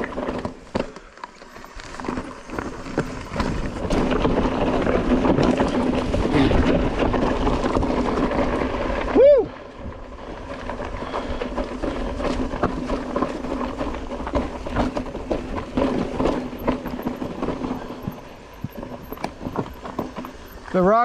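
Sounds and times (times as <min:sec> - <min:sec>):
bike clattering over rocks: 0:00.0 - 0:09.2, 0:09.8 - 0:21.0.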